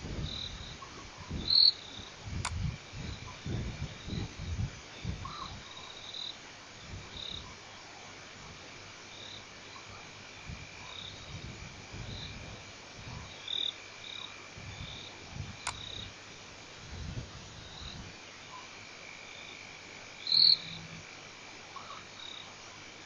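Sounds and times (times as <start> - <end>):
high insect drone: 0.0 - 23.0
frogs calling: 0.3 - 2.2, 3.1 - 8.1, 8.8 - 11.4, 12.1 - 16.2, 17.5 - 23.0.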